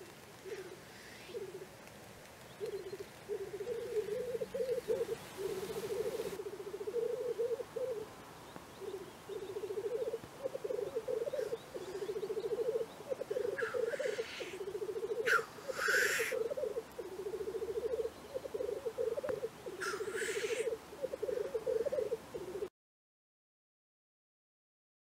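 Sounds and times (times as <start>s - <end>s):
grouse bubbling coo: 0.0s - 1.8s, 2.5s - 22.7s
faint hissing bird call: 0.4s - 1.8s, 2.4s - 22.7s.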